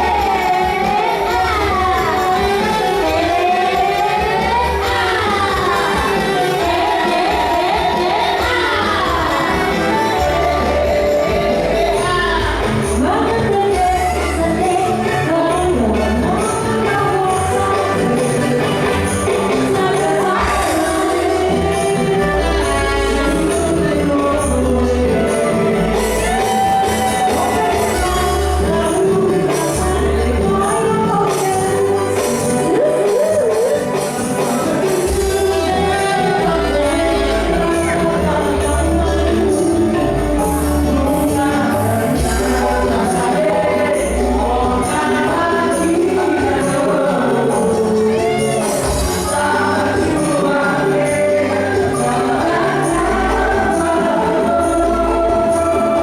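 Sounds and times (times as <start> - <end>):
person singing: 0.0 - 56.0
steady bass line: 0.0 - 56.0.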